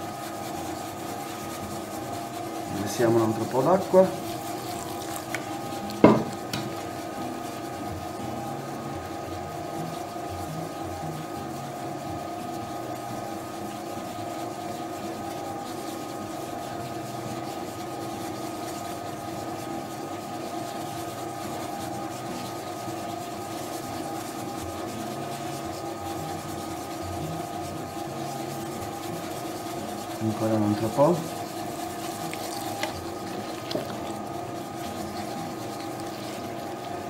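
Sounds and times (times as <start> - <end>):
dough mixer motor humming: 0.0 - 37.0.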